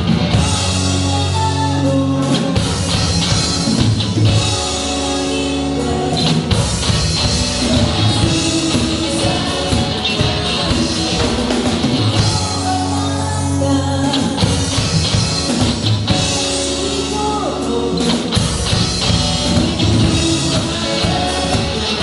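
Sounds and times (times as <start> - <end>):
bass guitar: 0.0 - 22.0
drums: 0.0 - 22.0
electric guitar: 0.0 - 22.0
person singing: 0.0 - 22.0.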